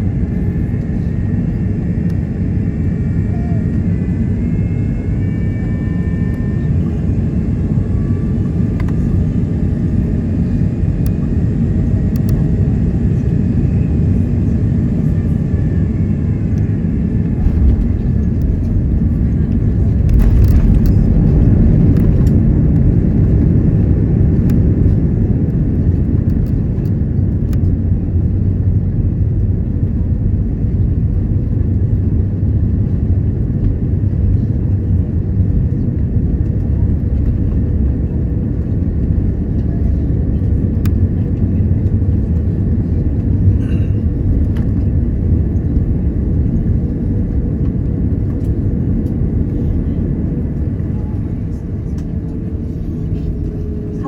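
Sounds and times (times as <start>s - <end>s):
airplane cabin low rumble: 0.0s - 54.0s.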